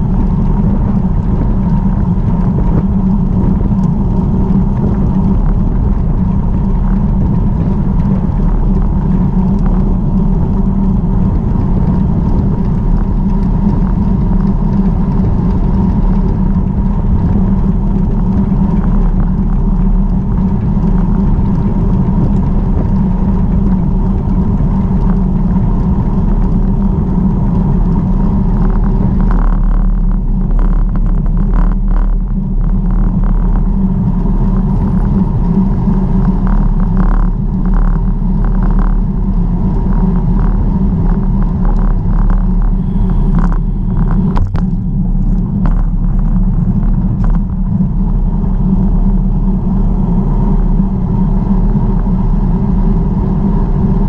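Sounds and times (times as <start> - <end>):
bicycle tyre and road noise: 0.0 - 54.0
wind rumble on microphone: 0.0 - 54.0.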